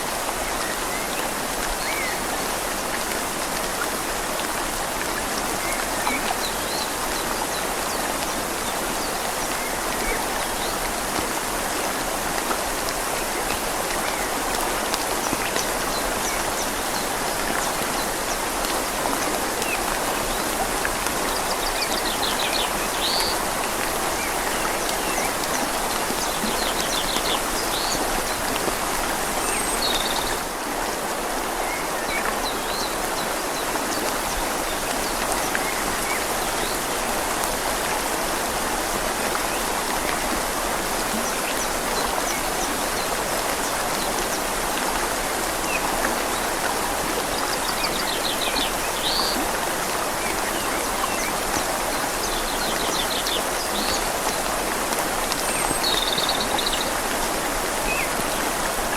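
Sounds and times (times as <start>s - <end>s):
rain falling on leaves: 0.0s - 58.9s
river flowing: 0.0s - 58.9s.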